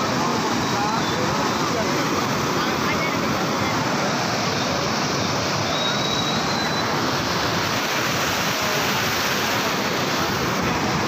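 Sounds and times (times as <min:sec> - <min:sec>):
stream rushing over road: 0:00.0 - 0:11.0.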